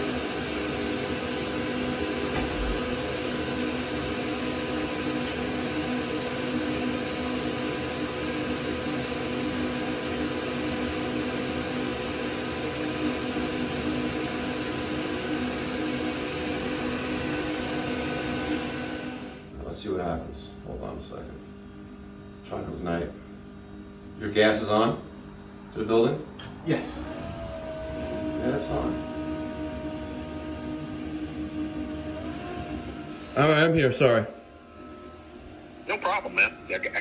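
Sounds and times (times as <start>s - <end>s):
blower whirring with humming tones: 0.0s - 37.0s.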